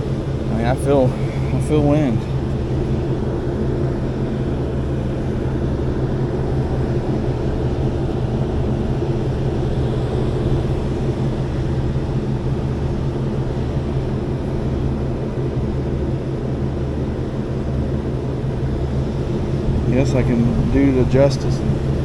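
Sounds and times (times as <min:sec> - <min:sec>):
rooftop fan droning: 0:00.0 - 0:22.0.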